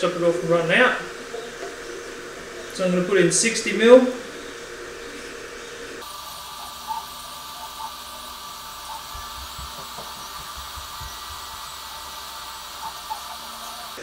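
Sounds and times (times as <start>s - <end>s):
printer motors whirring: 0.0s - 14.0s.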